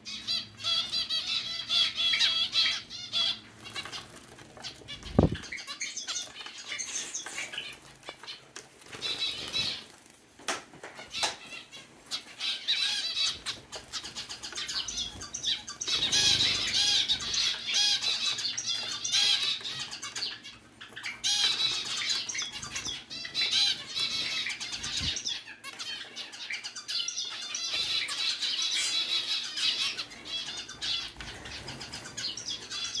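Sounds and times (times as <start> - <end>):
finches calling: 0.1 - 9.8, 11.1 - 33.0.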